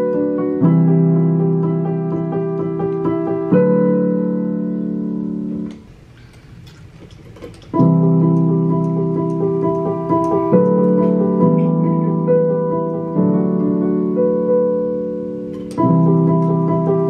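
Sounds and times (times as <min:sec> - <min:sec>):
digital piano chords: 0:00.0 - 0:17.0.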